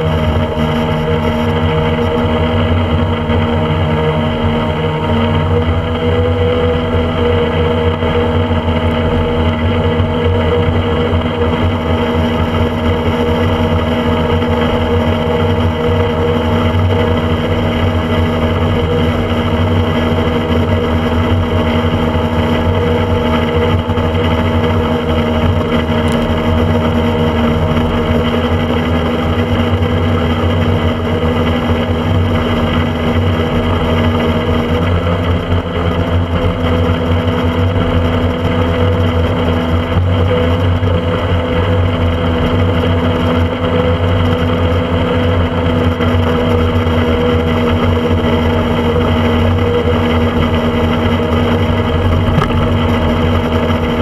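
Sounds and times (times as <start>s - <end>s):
motorboat engine running: 0.0s - 54.0s.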